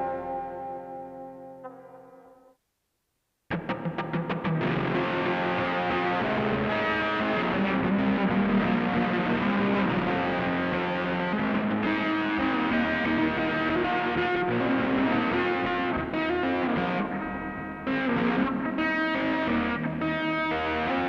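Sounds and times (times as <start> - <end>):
instrumental rock music: 0.0 - 2.4, 3.5 - 21.0.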